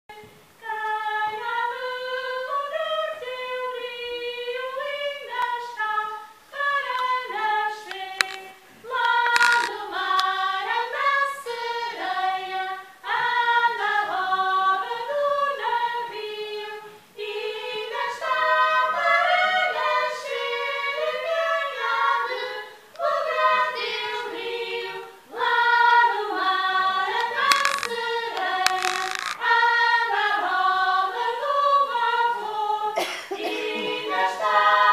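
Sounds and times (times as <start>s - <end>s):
women singing together: 0.1s - 34.9s.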